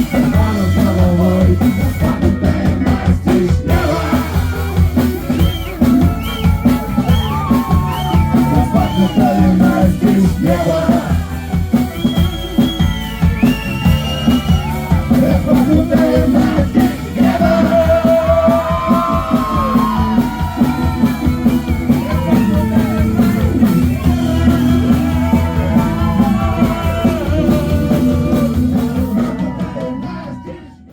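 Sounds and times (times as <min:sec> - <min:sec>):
live rock band playing: 0:00.0 - 0:30.6.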